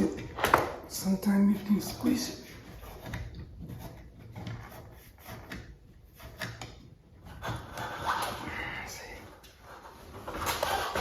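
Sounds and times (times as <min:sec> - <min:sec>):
rubbing and scraping in ceiling can: 0:00.0 - 0:11.0.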